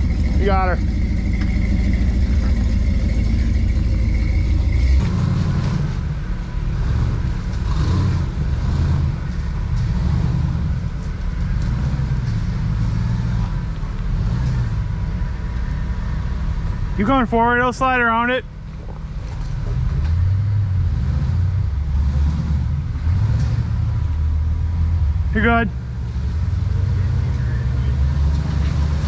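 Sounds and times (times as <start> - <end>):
off-road vehicle engine rumbling: 0.0 - 29.0.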